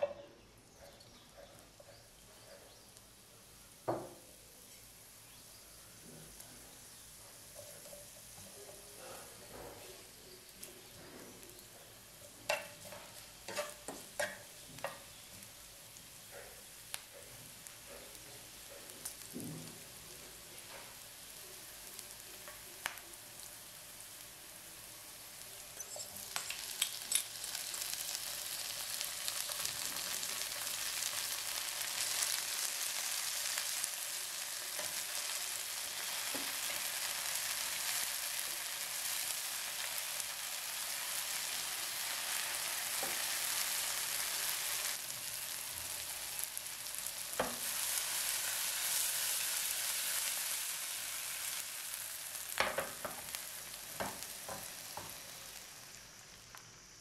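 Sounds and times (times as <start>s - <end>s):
vegetables sizzling in hot oil: 1.9s - 57.0s.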